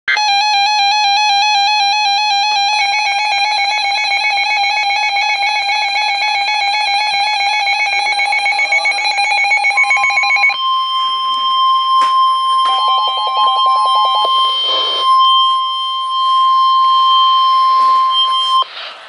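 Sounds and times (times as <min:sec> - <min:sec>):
steady warning tone: 0:00.1 - 0:18.7
warbling electronic alert alarm: 0:00.1 - 0:18.7.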